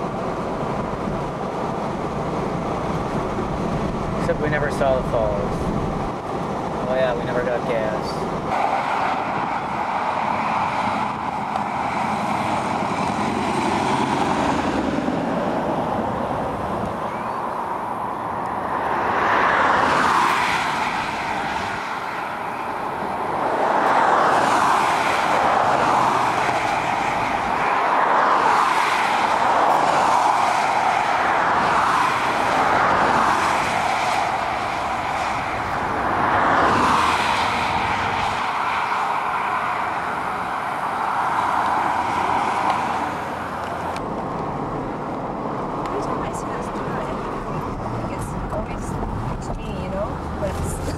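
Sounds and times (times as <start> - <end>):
highway traffic: 0.0 - 50.9
vehicles passing: 0.0 - 50.9.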